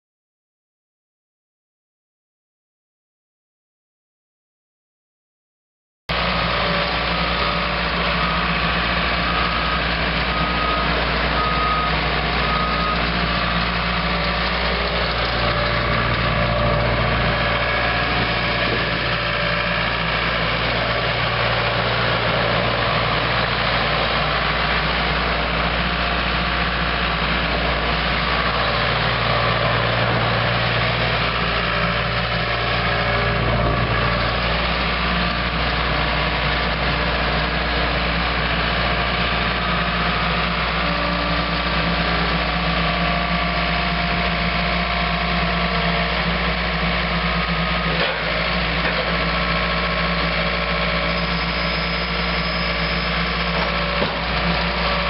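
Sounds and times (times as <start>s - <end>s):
diesel engine running: 6.1s - 55.0s.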